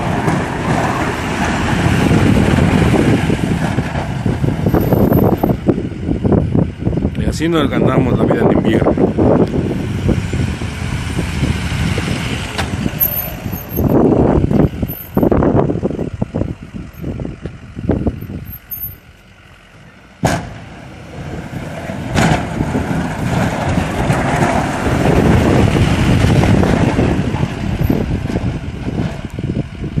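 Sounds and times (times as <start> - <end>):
pickup truck engine running: 0.0 - 7.1, 9.0 - 30.0
road noise: 0.0 - 30.0.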